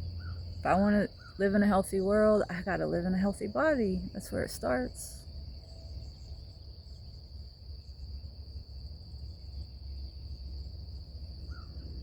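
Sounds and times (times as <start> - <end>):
crickets trilling: 0.0 - 12.0
low background rumble: 0.0 - 12.0.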